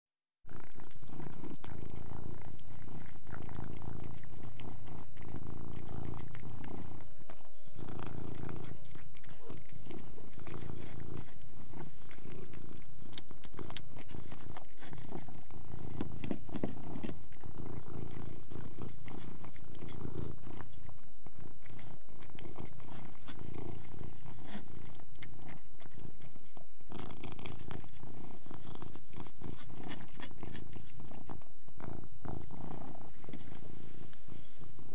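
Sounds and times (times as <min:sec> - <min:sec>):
chewing clicks: 0:00.5 - 0:33.6
cat purring: 0:00.5 - 0:34.9.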